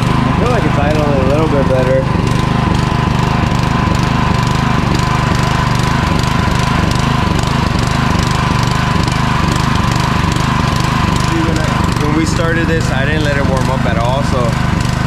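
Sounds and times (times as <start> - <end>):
small engine idling with whine: 0.0 - 15.0.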